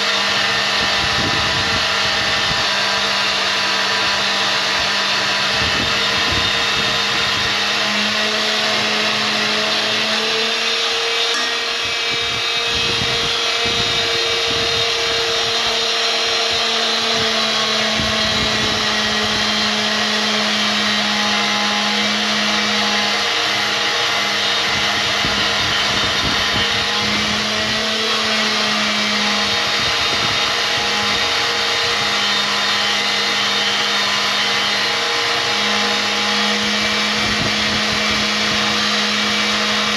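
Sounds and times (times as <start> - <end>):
band saw cutting metal: 0.0 - 39.9.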